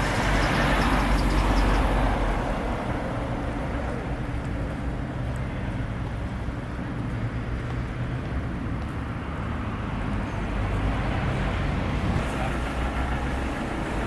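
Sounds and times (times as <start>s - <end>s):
passing vehicles rumble: 0.0s - 14.0s.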